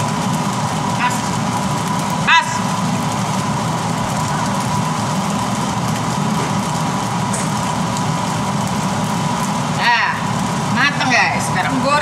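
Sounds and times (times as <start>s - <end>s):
fried rice sizzling in a pan: 0.0s - 12.0s
range hood fan humming: 0.0s - 12.0s
thin steady whine: 0.0s - 12.0s.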